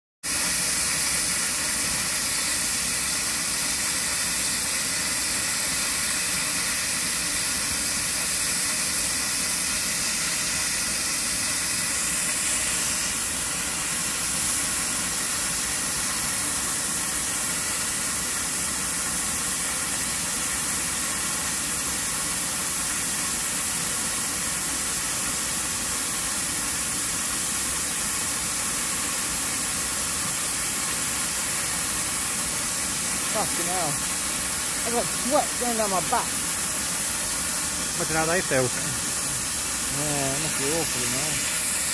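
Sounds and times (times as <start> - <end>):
steam locomotive hissing: 0.2 - 41.9.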